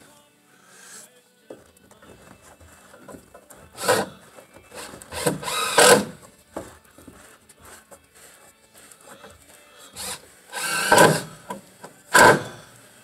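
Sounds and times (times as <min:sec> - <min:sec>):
hand tools scraping plastic: 0:01.5 - 0:12.6.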